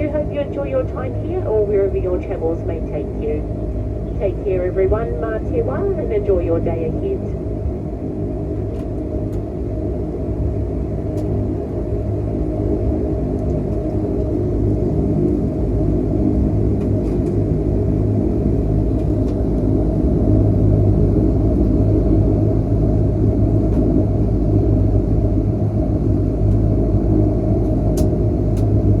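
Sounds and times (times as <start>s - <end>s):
turboprop engines droning: 0.0s - 29.0s.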